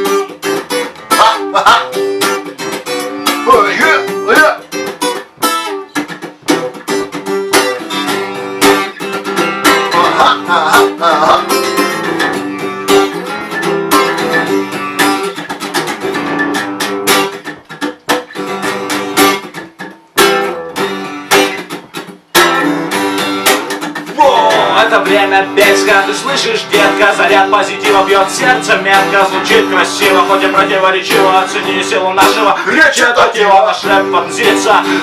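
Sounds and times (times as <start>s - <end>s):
acoustic guitar strumming chords: 0.0s - 35.0s.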